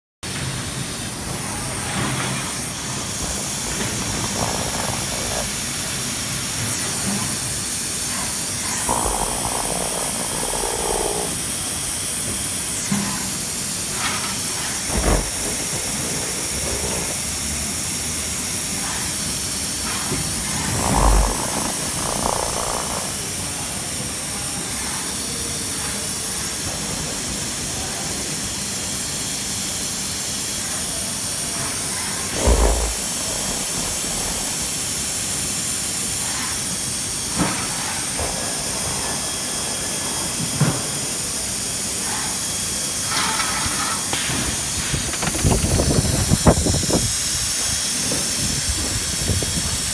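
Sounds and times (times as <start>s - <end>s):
rough mid-pitched machine noise: 0.3s - 28.8s, 30.5s - 49.9s.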